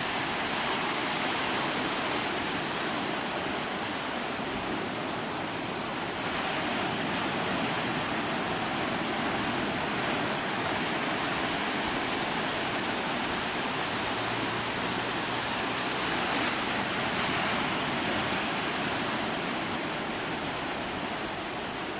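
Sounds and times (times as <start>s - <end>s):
ocean surf breaking on beach: 0.0s - 21.9s.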